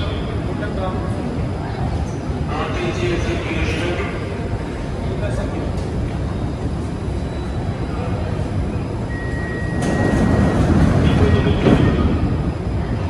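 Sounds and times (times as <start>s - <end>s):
metro train rumble: 0.0s - 13.0s
thin steady whine: 0.0s - 13.0s.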